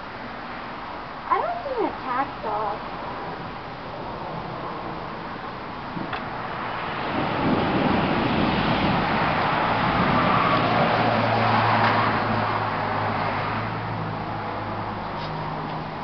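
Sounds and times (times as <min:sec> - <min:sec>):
road vehicle passing by: 0:01.3 - 0:16.0.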